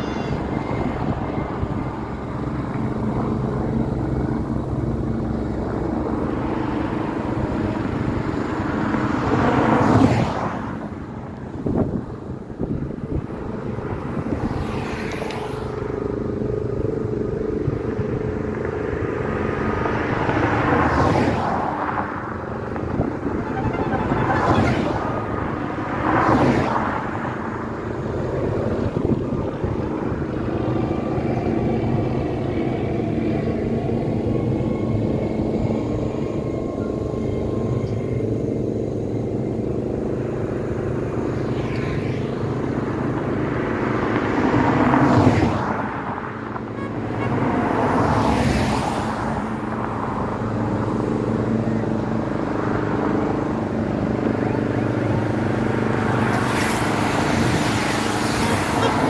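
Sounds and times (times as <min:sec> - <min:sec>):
low engine drone: 0:00.0 - 0:59.0
vehicles passing with swoosh: 0:00.0 - 0:59.0.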